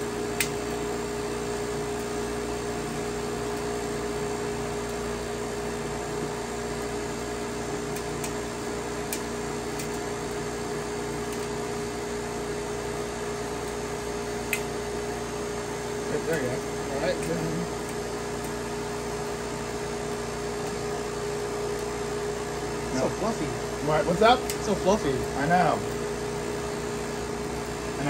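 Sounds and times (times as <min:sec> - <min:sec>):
cotton candy machine motor hum: 0:00.0 - 0:28.0.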